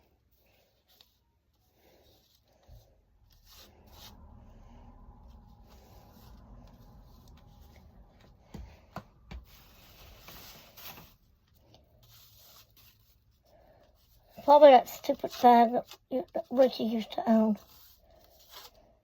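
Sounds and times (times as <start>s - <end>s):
faint rubbing and rustling: 0.0s - 19.0s.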